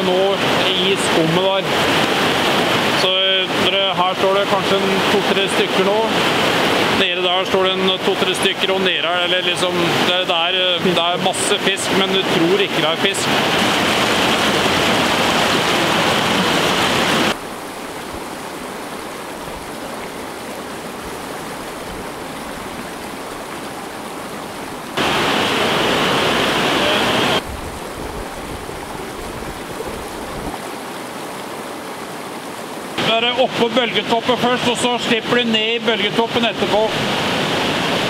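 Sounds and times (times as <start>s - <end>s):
river water rushing over rocks: 0.0s - 38.0s.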